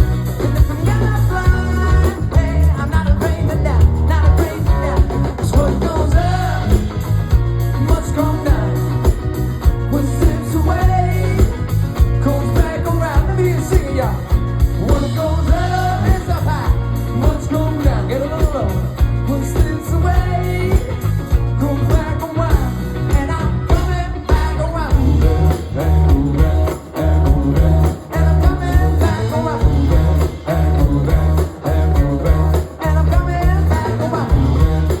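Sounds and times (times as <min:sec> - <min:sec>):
live rock band playing: 0:00.0 - 0:35.0
person singing: 0:00.0 - 0:35.0.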